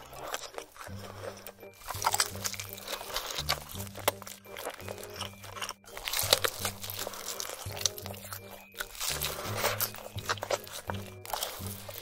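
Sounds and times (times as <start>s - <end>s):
background music with low bass: 0.0s - 12.0s
crunching and chewing: 0.0s - 12.0s.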